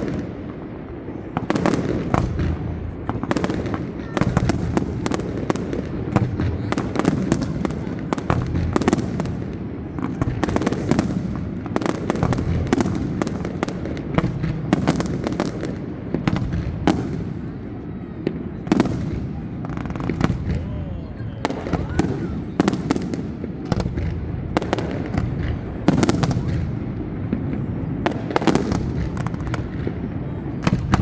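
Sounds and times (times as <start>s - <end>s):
firework bangs and crackles: 0.0s - 31.0s.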